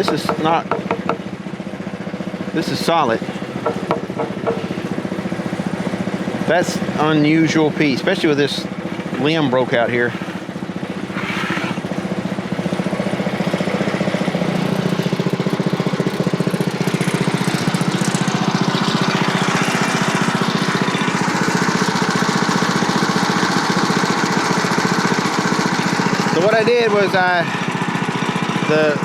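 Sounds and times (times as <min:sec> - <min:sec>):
small gasoline engine running: 0:00.0 - 0:29.0.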